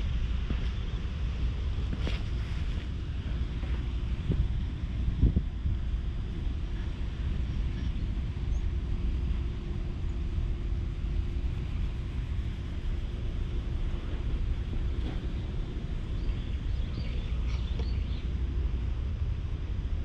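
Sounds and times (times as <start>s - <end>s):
faint steady hum: 0.0s - 20.0s
wind rumbling on microphone: 0.0s - 20.0s.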